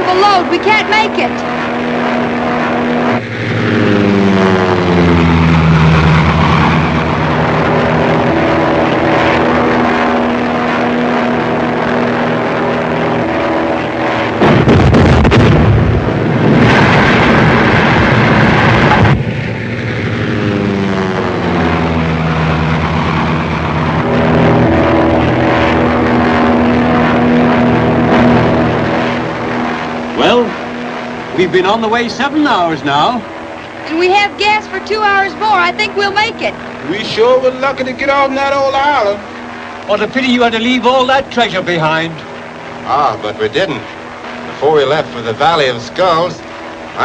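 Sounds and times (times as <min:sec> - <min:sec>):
loud rushing roar: 0:00.0 - 0:47.0
propeller aircraft engine droning: 0:00.0 - 0:47.0.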